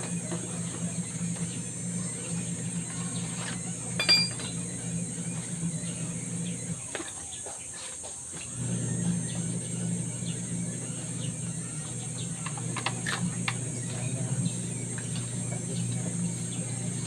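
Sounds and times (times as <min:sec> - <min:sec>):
electric motor humming: 0:00.0 - 0:07.5, 0:08.4 - 0:17.0.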